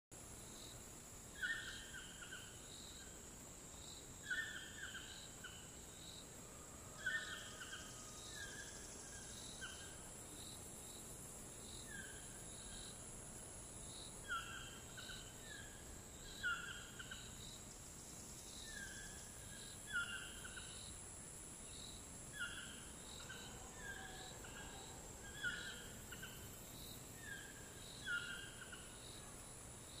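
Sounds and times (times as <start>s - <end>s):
cicadas droning: 0.2s - 30.0s.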